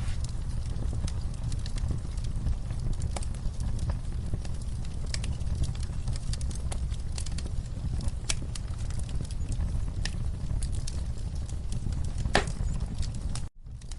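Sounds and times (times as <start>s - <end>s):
campfire crackling: 0.0s - 13.9s.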